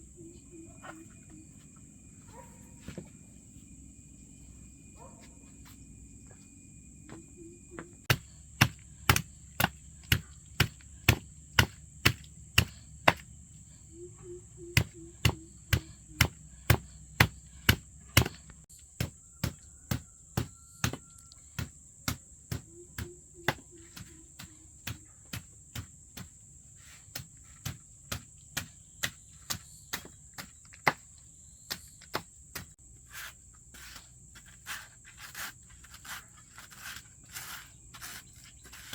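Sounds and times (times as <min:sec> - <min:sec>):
crickets chirring: 0:00.0 - 0:38.9.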